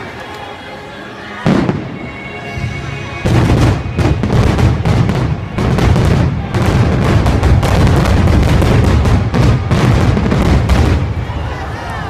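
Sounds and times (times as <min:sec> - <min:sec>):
fireworks booming and crackling: 0:01.4 - 0:11.7.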